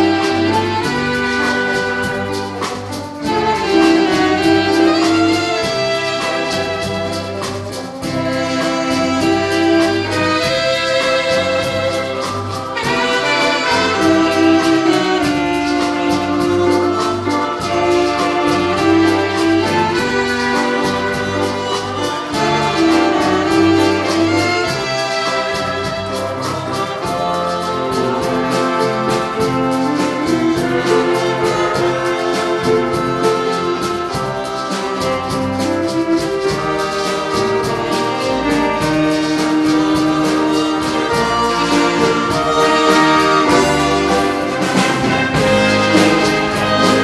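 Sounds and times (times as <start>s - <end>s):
drums keeping a steady beat: 0.0s - 47.0s
saxophones: 0.0s - 47.0s
trombones: 0.0s - 47.0s
trumpets: 0.0s - 47.0s.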